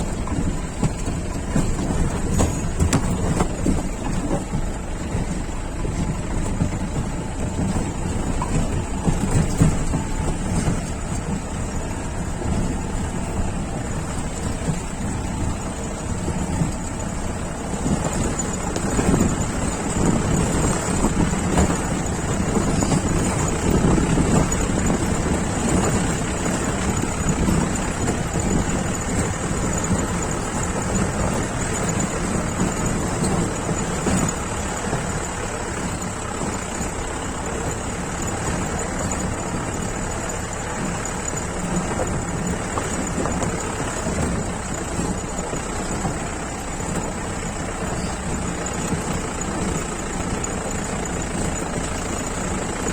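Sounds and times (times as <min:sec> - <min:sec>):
vehicle engine rumbling: 0:00.0 - 0:52.9.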